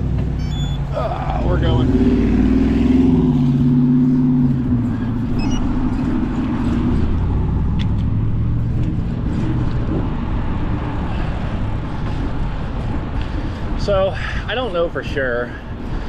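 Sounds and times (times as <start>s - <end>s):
road noise: 0.0s - 16.0s
vehicle engine hum: 0.0s - 16.0s.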